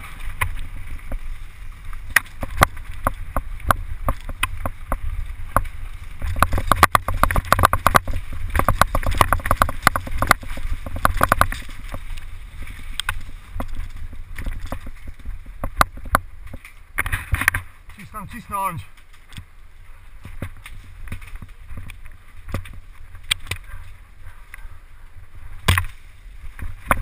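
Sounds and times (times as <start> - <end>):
bike clattering and rattling: 0.0 - 18.2, 18.8 - 27.0
wind rumbling on microphone: 0.0 - 27.0.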